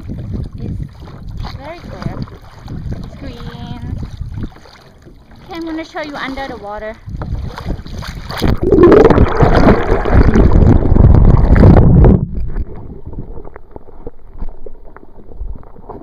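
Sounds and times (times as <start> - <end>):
water rushing and gurgling: 0.0 - 16.0.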